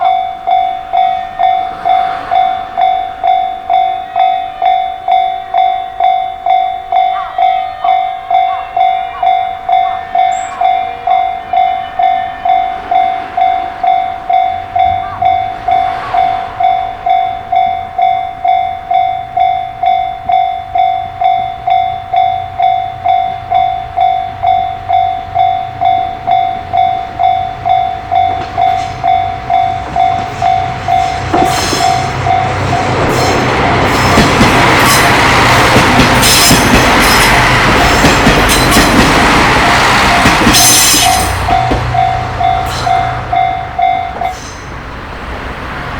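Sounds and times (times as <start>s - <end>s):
level-crossing warning bell: 0.0s - 44.9s
train low hum: 0.0s - 45.9s
train wheels on rail: 0.0s - 45.9s.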